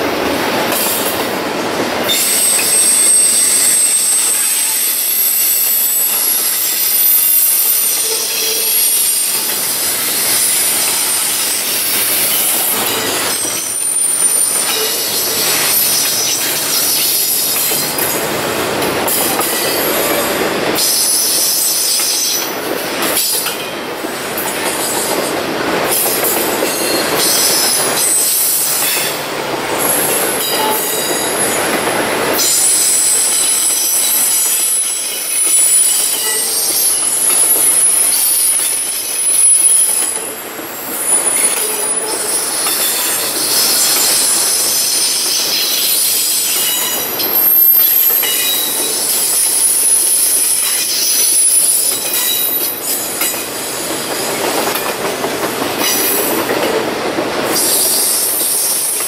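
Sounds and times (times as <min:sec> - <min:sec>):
freight train rumble and clatter: 0:00.0 - 0:59.0
train wheels squealing: 0:02.0 - 0:18.3, 0:19.1 - 0:56.5, 0:57.5 - 0:59.0.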